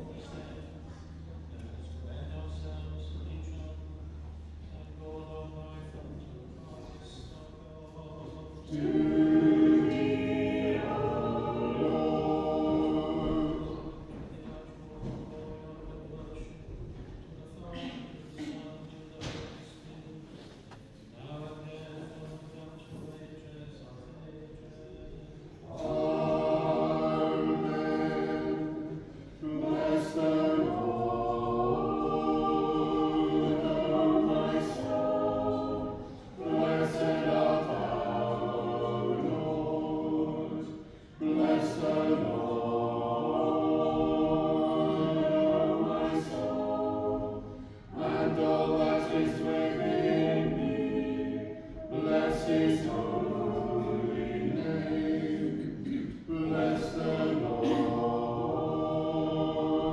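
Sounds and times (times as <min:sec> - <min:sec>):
choir chanting a cappella: 0:00.0 - 0:59.9.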